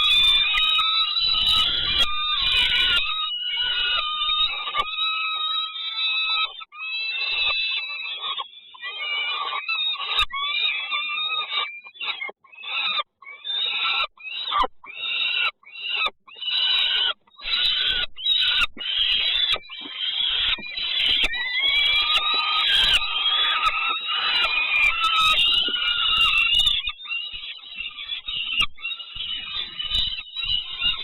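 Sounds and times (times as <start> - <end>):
nestling birds begging calls: 0.0 - 5.0, 6.3 - 31.0.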